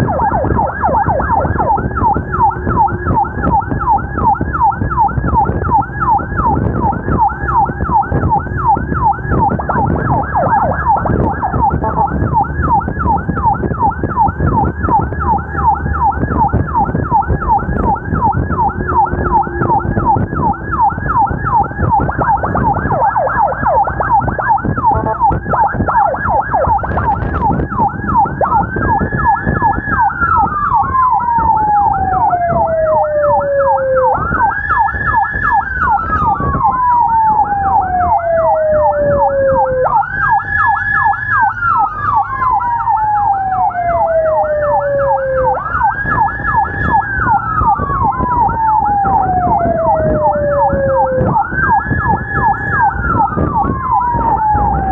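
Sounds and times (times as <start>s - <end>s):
road noise: 0.0s - 54.9s
siren wail: 0.0s - 54.9s
siren yelp: 0.0s - 54.9s.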